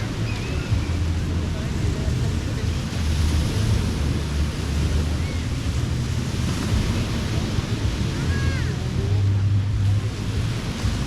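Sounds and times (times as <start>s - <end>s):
ocean surf washing ashore: 0.0s - 11.0s
wind buffeting microphone: 0.0s - 11.0s.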